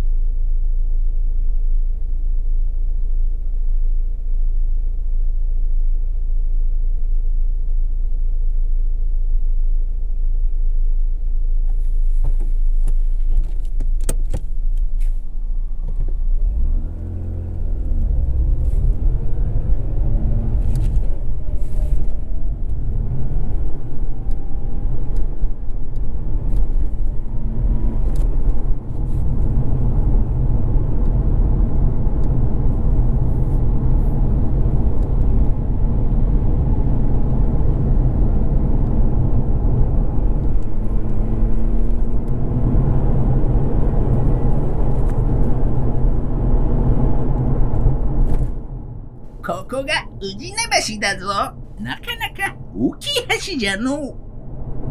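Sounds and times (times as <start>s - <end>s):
car engine: 0.0s - 54.9s.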